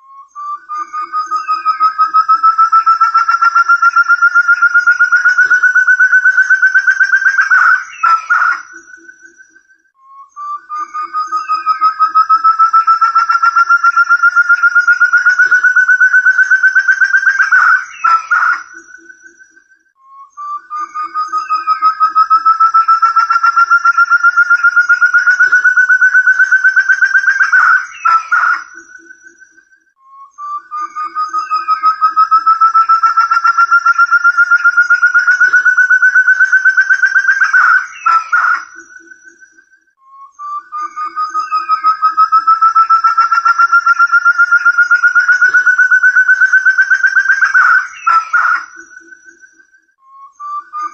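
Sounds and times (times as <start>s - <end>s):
partridge whistled calls: 0.0s - 50.9s.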